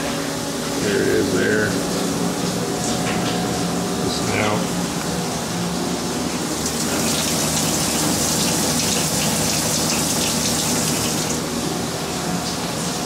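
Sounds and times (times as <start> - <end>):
low machine hum: 0.0 - 13.0
coolant splashing: 1.2 - 13.0.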